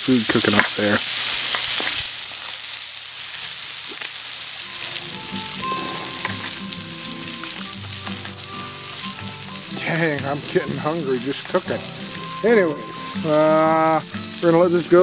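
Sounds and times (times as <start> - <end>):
vegetables sizzling in skillet: 0.0 - 15.0.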